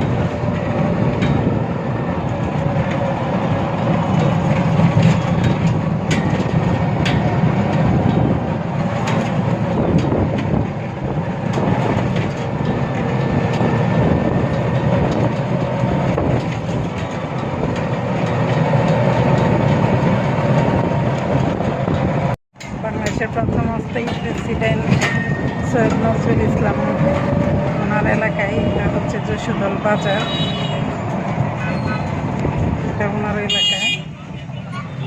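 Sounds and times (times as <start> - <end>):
rattling: 0.0 - 33.5
vehicle engine and road noise: 0.0 - 35.0.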